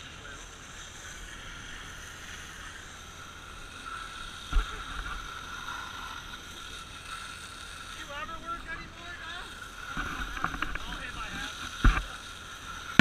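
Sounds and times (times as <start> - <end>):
fire engine pump running with whine: 0.0 - 13.0.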